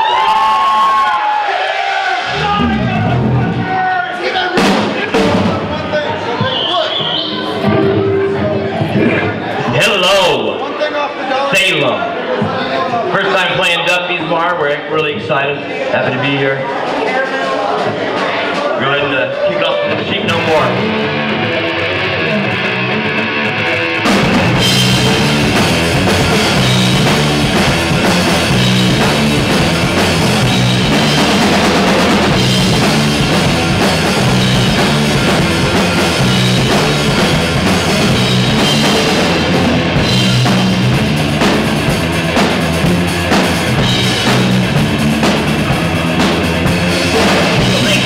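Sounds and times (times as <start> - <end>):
live rock band playing: 2.1 - 10.7, 16.6 - 48.0.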